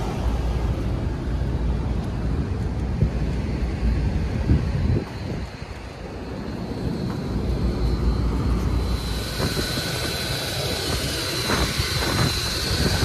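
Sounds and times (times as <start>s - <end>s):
air conditioner whoosh: 0.0s - 13.0s
high whine: 0.0s - 13.0s
wind rumble on microphone: 0.0s - 13.0s.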